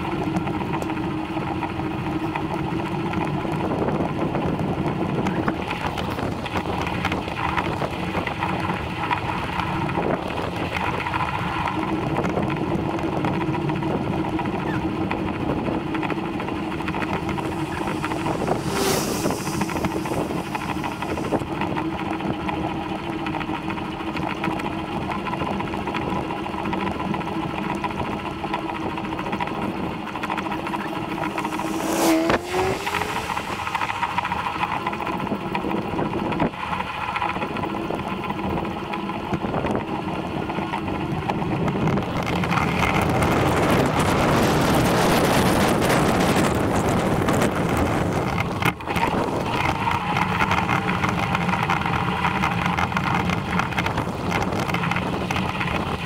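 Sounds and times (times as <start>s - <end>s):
wind buffeting microphone: 0.0s - 24.2s, 24.8s - 56.0s
constant riding hum: 0.0s - 56.0s.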